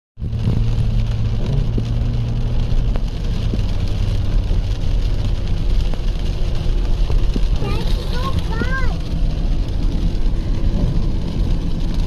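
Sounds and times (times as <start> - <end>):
car engine and road rumble: 0.2 - 12.0
rain hissing on car: 0.2 - 12.0.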